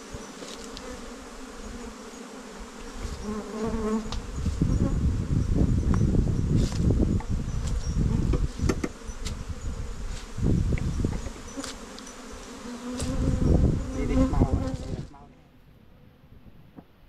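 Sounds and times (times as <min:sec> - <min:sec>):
bees buzzing: 0:00.0 - 0:15.1.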